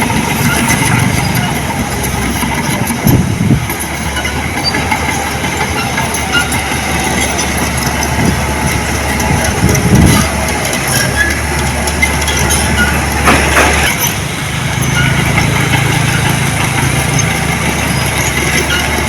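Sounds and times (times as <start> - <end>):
diesel engine running: 0.0 - 19.0
rattling and clanking: 0.0 - 19.0.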